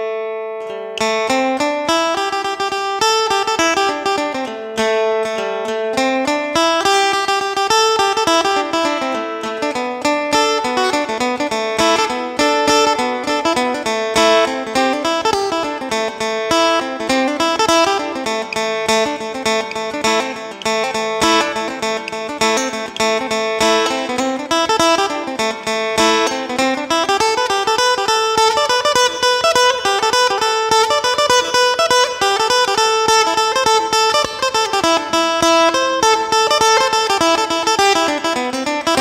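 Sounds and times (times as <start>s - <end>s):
plucked lute melody: 0.0s - 39.0s.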